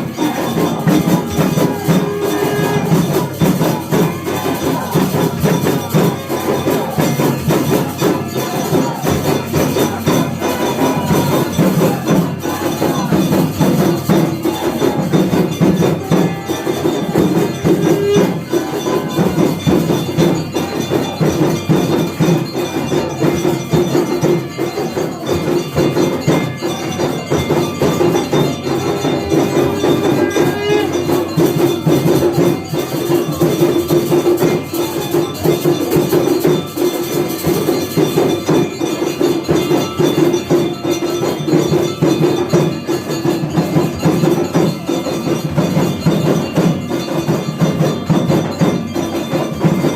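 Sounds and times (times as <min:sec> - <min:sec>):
bells: 0:00.0 - 0:49.9
cymbals: 0:00.0 - 0:49.9
drums: 0:00.0 - 0:49.9.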